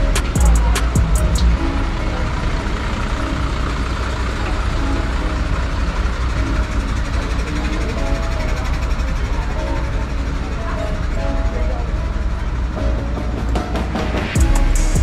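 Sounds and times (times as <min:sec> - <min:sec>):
faint voices: 0:00.0 - 0:14.0
traffic rumble: 0:00.0 - 0:15.0.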